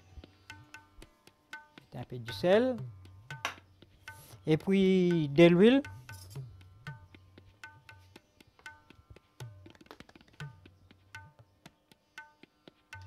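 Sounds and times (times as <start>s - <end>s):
tabla drumming: 0.0s - 13.0s.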